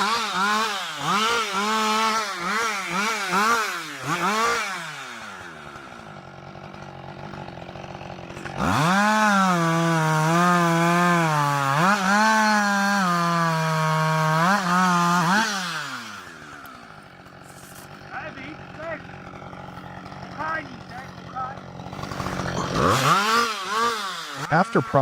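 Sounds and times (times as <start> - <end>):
chainsaw cutting wood: 0.0 - 25.0
chainsaw revving and idling: 0.0 - 25.0.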